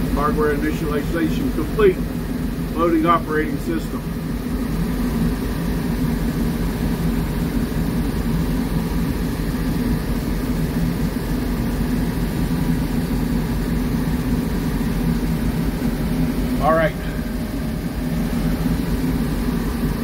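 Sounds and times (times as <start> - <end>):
diesel locomotive engine idling: 0.0 - 20.0.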